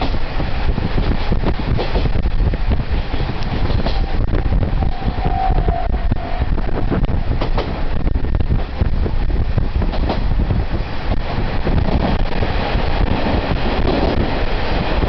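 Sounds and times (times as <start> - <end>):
railcar engine and wheels rumbling: 0.0 - 15.0.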